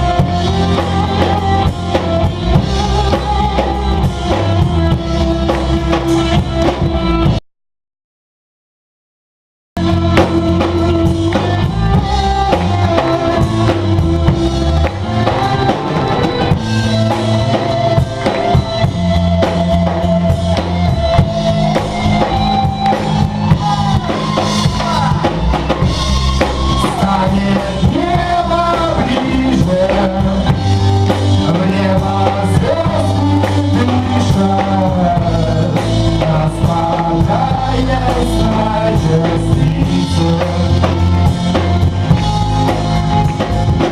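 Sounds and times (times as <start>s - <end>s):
bass: 0.0s - 7.4s, 9.8s - 43.9s
drum kit beat: 0.0s - 7.4s, 9.8s - 43.9s
gliding melodic lead line: 0.0s - 7.4s, 9.8s - 43.9s.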